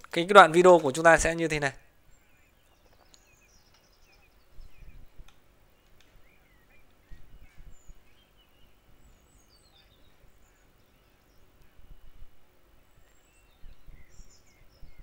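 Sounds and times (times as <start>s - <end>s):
birds chirping and warbling: 0.1s - 15.0s.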